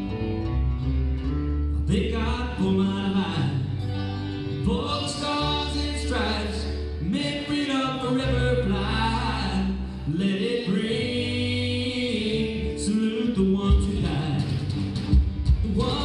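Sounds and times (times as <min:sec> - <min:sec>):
acoustic and electric guitars: 0:00.0 - 0:16.0
electric bass: 0:00.0 - 0:16.0
male voice singing: 0:01.8 - 0:14.7, 0:15.5 - 0:16.0.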